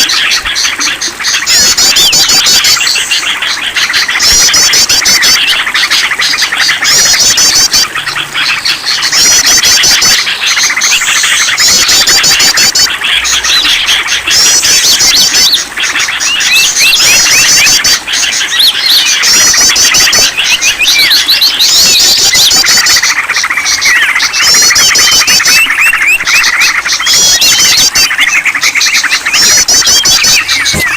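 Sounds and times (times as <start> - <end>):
high rapid bird trill: 0.0 - 30.9
songbirds chirping and trilling: 0.0 - 30.9.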